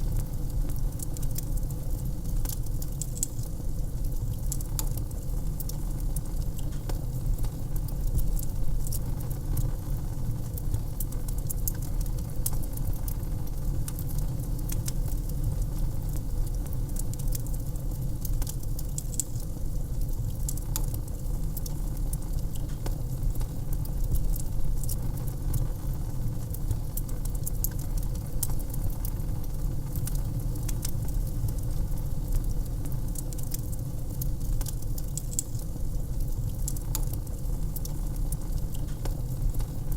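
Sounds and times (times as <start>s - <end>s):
wood fire crackling: 0.0s - 39.9s
fire pops and snaps: 0.1s - 9.8s, 10.5s - 25.9s, 26.5s - 39.9s.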